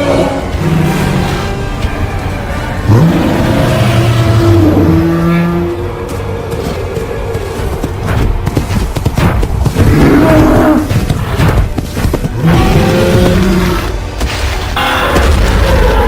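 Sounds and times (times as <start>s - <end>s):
rumble of many hooves: 0.0s - 16.0s
animal calls and roars: 2.6s - 16.0s.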